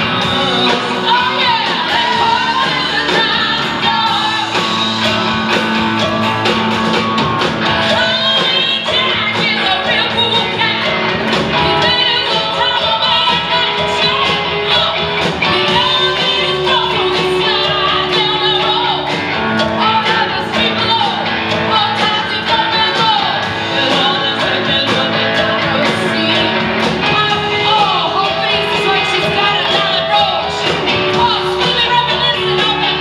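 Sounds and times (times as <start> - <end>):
backing singer: 0.0 - 33.0
lead vocalist singing: 0.0 - 33.0
rock band playing: 0.0 - 33.0.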